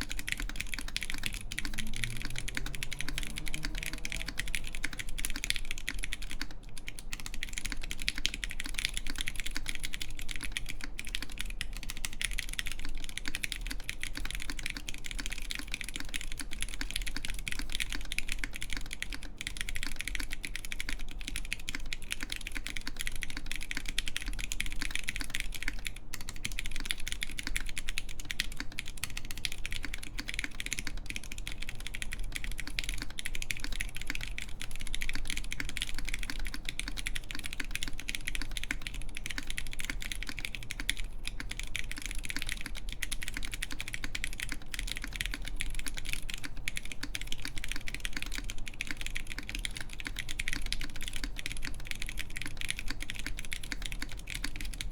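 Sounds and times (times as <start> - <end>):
mechanical keyboard typing: 0.0 - 54.9.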